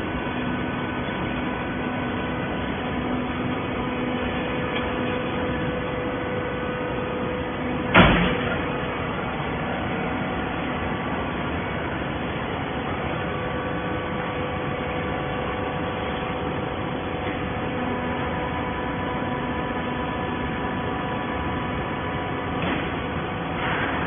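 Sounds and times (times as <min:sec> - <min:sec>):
baling press machine hum: 0:00.0 - 0:24.0.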